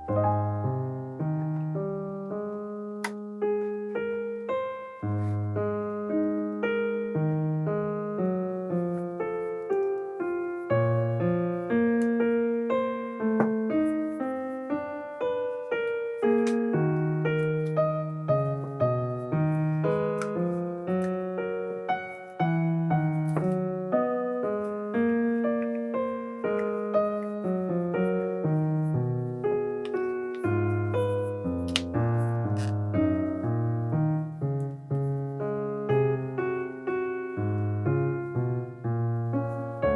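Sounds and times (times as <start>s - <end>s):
solo piano melody: 0.0s - 39.9s.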